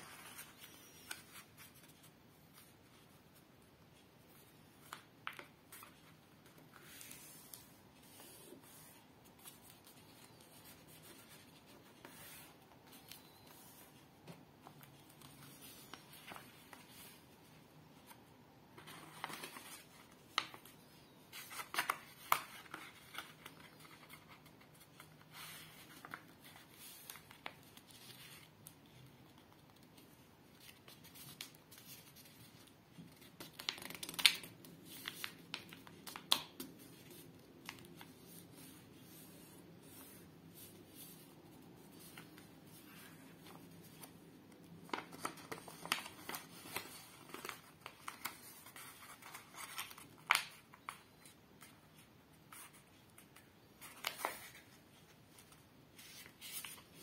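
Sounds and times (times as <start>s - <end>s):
paper being folded and creased: 0.0s - 3.2s, 4.3s - 14.0s, 14.6s - 18.2s, 18.8s - 57.0s.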